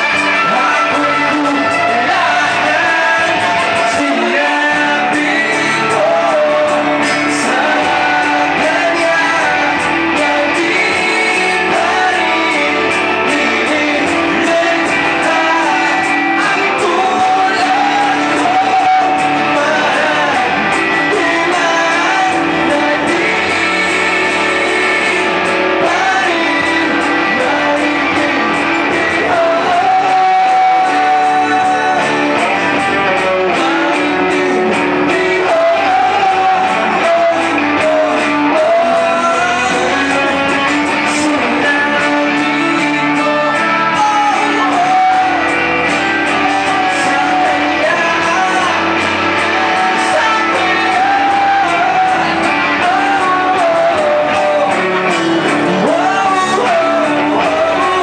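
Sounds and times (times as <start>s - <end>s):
man singing: 0.0s - 58.0s
strummed acoustic guitar: 0.0s - 58.0s.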